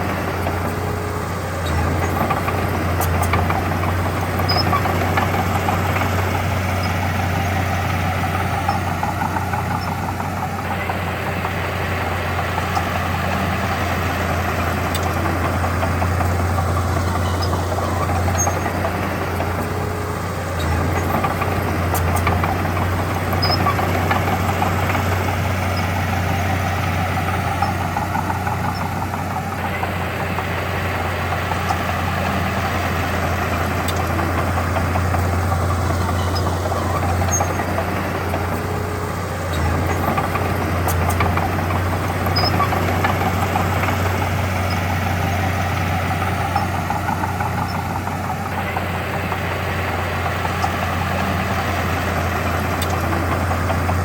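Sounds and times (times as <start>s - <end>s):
heavy diesel engine humming: 0.0s - 54.0s.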